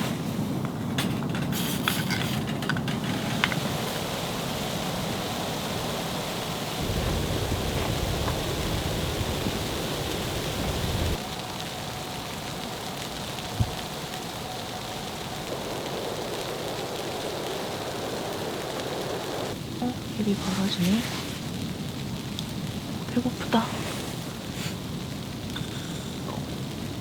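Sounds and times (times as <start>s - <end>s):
rain pattering on a tent: 0.0s - 27.0s
wind rumbling on microphone: 0.0s - 27.0s.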